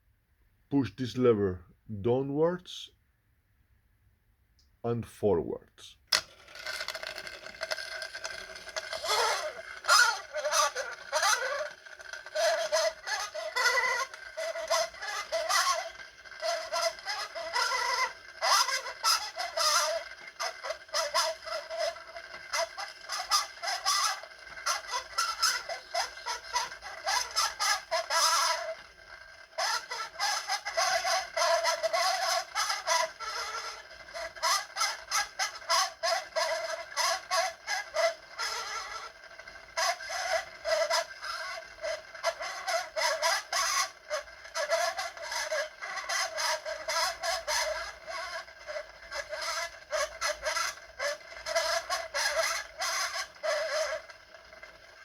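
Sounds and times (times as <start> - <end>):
clockwork mechanism clicking: 6.1 - 55.0.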